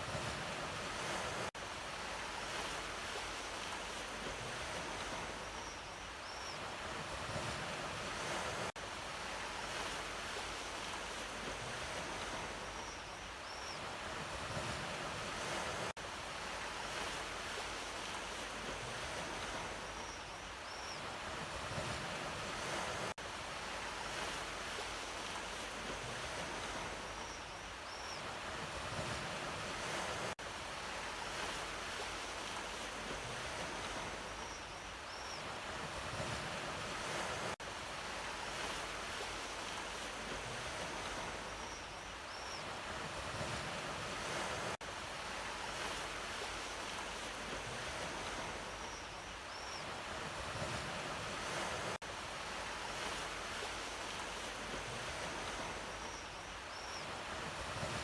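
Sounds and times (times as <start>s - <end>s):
ocean waves on shore: 0.0s - 58.0s.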